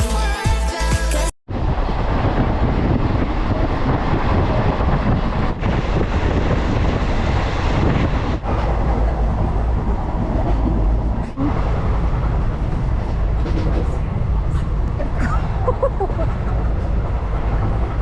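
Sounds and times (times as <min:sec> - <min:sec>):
train rumbling and rattling: 0:01.5 - 0:18.0.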